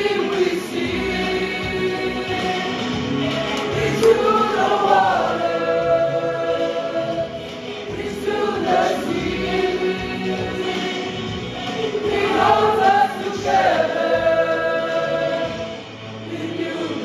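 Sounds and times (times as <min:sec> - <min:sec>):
choir singing gospel: 0:00.0 - 0:17.0.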